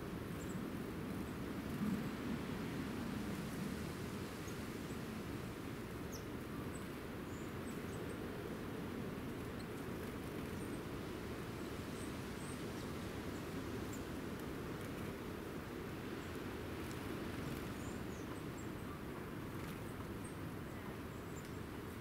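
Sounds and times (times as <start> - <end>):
songbirds chirping: 4.3 - 22.0.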